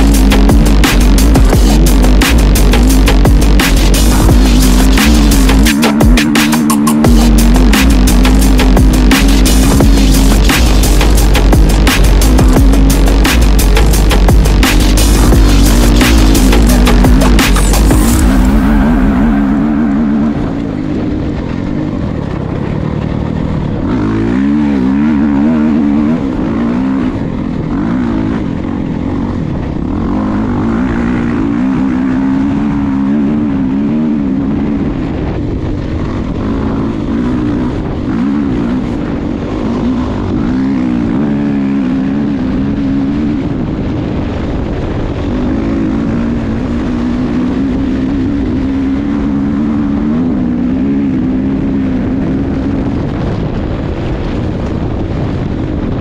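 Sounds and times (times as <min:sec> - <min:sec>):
dirt bike engine revving: 0:00.0 - 0:54.4.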